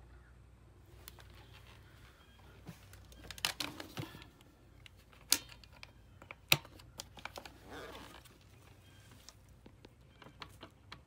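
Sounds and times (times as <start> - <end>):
handling clicks and rustles: 0.9 - 11.0.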